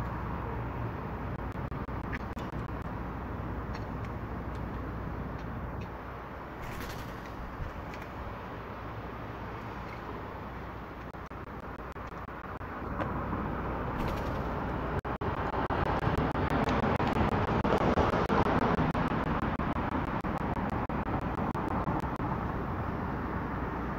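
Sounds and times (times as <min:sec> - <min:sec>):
road vehicle passing: 0:00.0 - 0:23.9.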